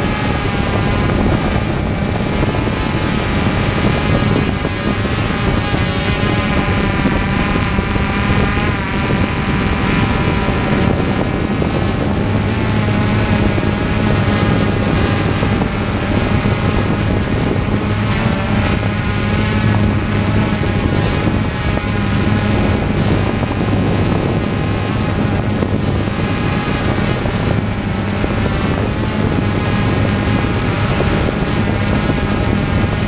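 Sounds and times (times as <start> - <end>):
propeller aircraft engine drone: 0.0 - 33.0
wind rush: 0.0 - 33.0.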